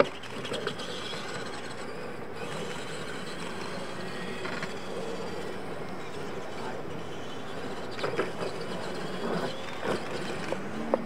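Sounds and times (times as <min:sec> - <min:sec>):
toy truck motors whirring: 0:00.0 - 0:11.0.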